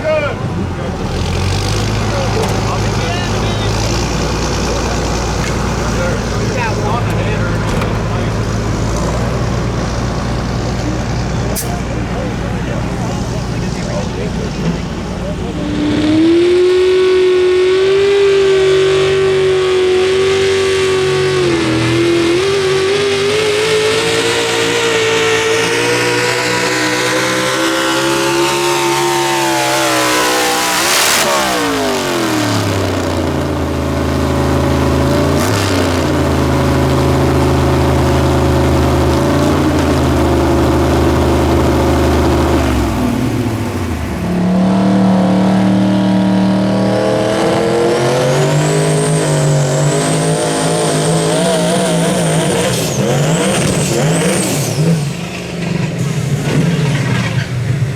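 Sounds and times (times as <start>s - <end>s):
engine revving at full throttle: 0.0s - 57.9s
sharp engine crack: 0.0s - 57.9s.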